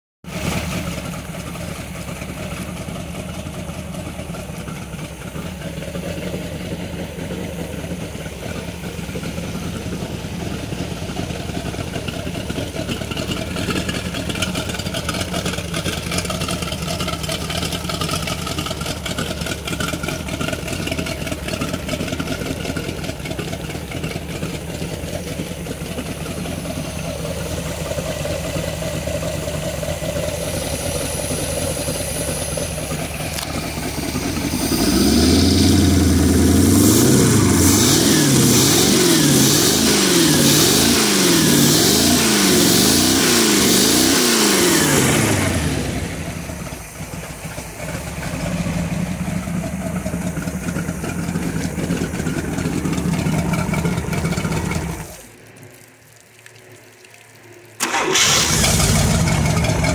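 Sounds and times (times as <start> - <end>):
boat engine idling: 0.2 - 55.5, 57.8 - 59.9
water gushing onto concrete: 0.3 - 59.9.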